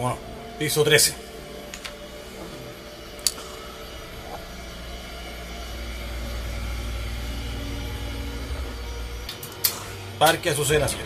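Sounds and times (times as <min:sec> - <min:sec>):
elevator hum: 0:00.0 - 0:11.0.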